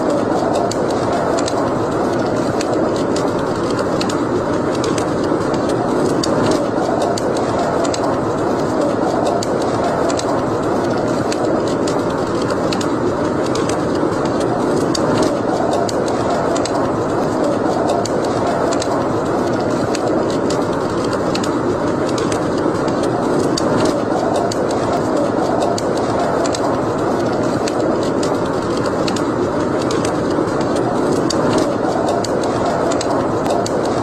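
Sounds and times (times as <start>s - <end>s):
fire crackles and pops: 0.0s - 34.0s
fire flames rushing: 0.0s - 34.0s.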